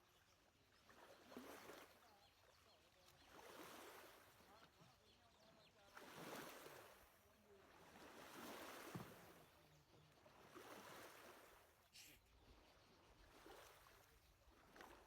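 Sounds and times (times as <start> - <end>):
faint lake water washing: 0.0 - 15.0.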